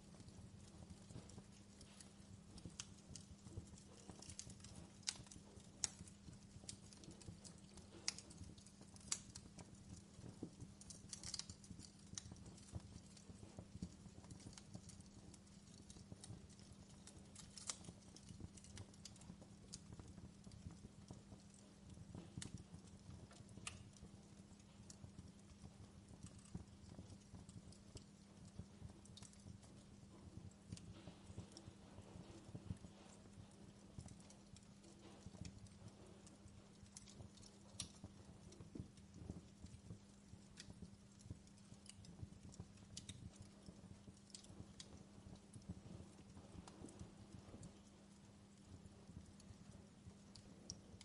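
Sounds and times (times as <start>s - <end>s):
fire crackling: 0.0s - 51.0s
low steady hum: 0.0s - 51.0s.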